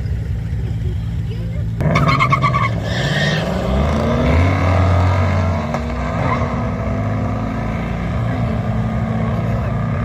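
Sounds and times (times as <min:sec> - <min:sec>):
cars accelerating hard: 0:01.8 - 0:10.0.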